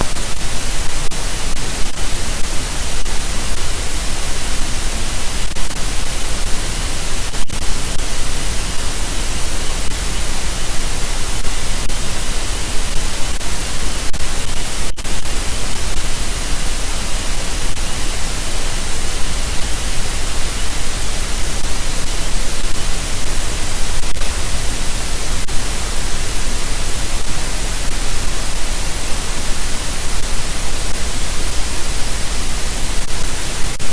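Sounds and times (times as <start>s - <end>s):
static hiss: 0.0s - 33.9s.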